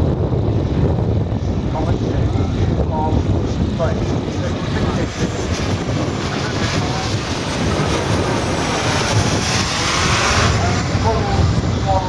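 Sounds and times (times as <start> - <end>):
wind rumbling on microphone: 0.0 - 12.0
model jet engine flying past: 1.4 - 12.0.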